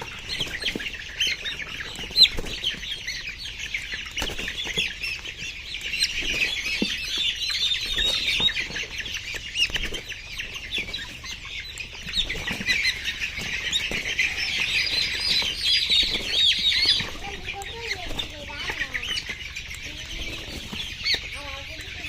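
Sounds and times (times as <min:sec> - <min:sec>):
chickens cheeping and clucking: 0:00.0 - 0:22.0.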